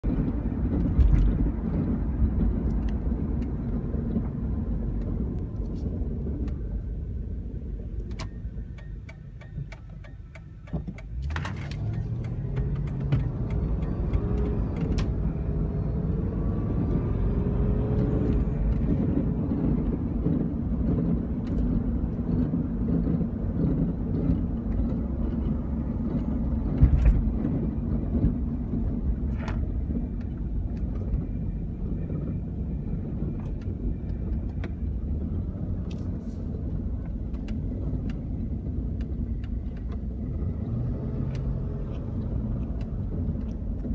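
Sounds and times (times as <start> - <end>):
drivetrain grinding rumble: 0.0 - 43.9.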